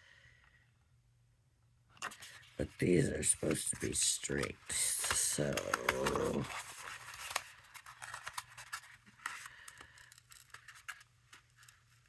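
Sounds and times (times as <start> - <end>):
cardstock rustling and crinkling: 2.0 - 12.0.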